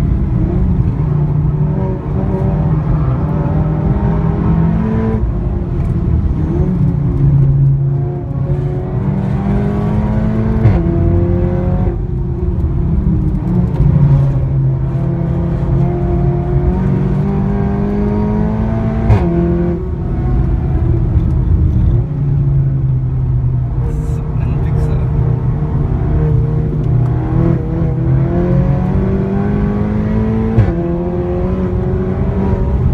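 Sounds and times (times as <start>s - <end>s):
car engine and loud exhaust accelerating: 0.0s - 32.9s.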